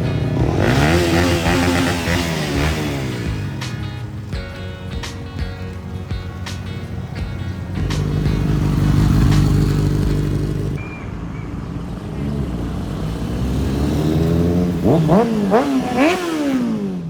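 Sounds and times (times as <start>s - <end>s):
motorcycle engine revving: 0.0s - 10.8s, 11.8s - 17.0s.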